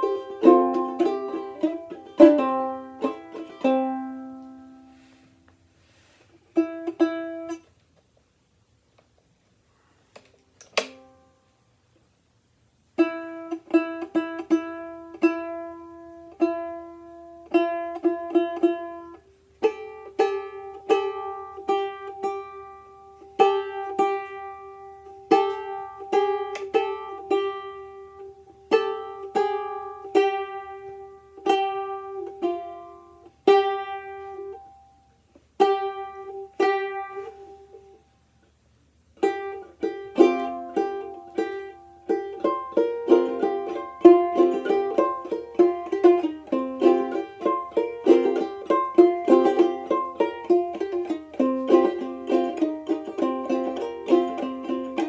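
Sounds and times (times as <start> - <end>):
plucked banjolele melody: 0.0 - 5.2, 6.4 - 7.8, 12.8 - 38.1, 39.0 - 55.0.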